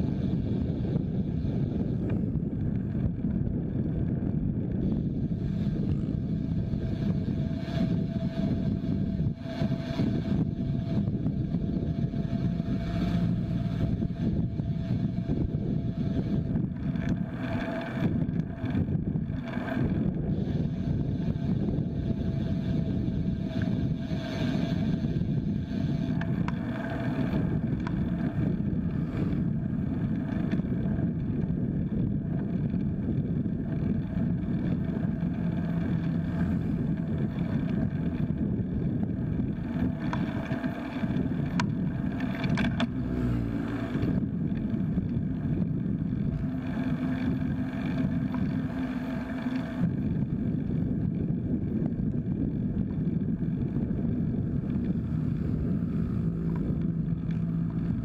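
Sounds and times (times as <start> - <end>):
bike tyre road noise: 0.0 - 58.0
wind buffeting microphone: 0.0 - 58.0.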